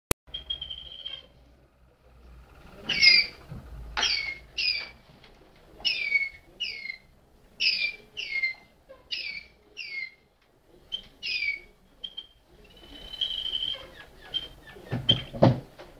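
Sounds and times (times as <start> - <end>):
canary singing: 0.3 - 5.0, 5.7 - 15.6.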